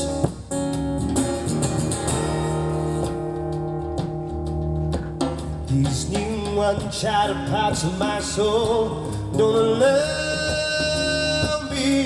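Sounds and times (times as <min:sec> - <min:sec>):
bass line: 0:00.0 - 0:12.0
guitar chords: 0:00.0 - 0:12.0.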